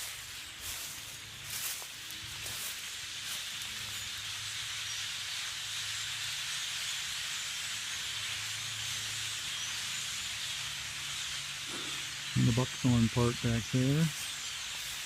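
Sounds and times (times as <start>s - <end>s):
flock of blackbirds calling: 0.0s - 15.0s.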